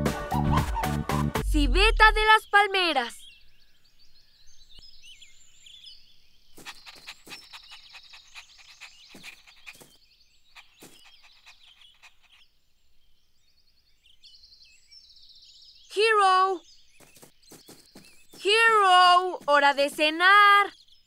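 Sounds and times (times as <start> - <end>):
small birds chirping: 1.5 - 21.0.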